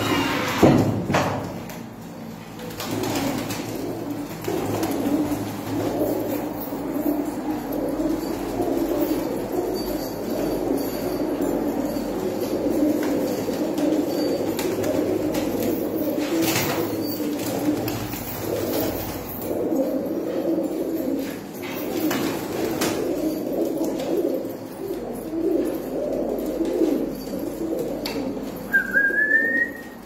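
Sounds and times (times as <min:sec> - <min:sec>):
pigeons cooing: 0:01.4 - 0:30.0.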